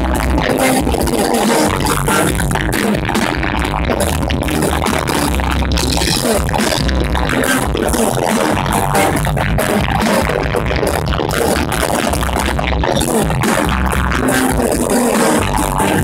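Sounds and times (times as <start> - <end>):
loud distorted electronic music: 0.0 - 16.0.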